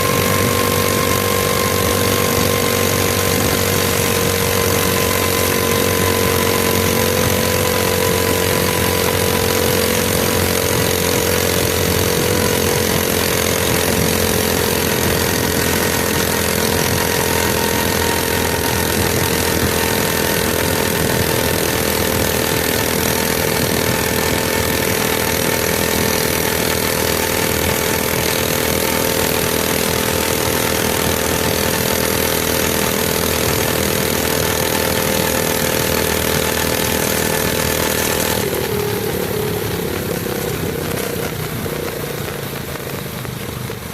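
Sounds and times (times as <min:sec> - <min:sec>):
small engine running: 0:00.0 - 0:43.9.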